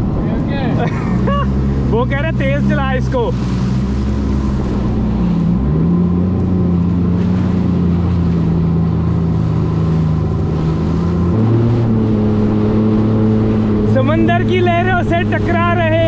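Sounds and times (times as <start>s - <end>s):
jet ski engine running: 0.0s - 16.0s
water rushing under hull: 0.0s - 16.0s.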